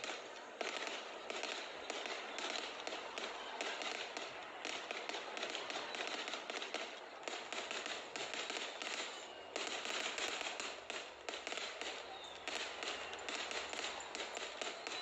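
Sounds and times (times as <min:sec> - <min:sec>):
fireworks crackling and popping: 0:00.0 - 0:15.0.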